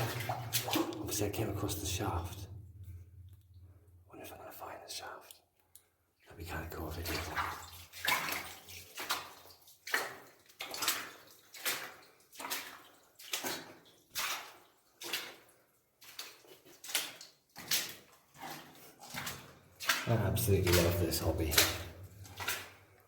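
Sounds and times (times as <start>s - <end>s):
footsteps wading through water: 0.0s - 3.8s, 6.6s - 23.0s.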